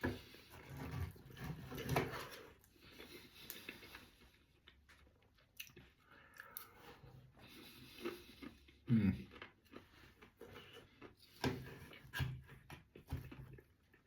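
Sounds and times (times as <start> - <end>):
person chewing food: 2.3 - 14.0.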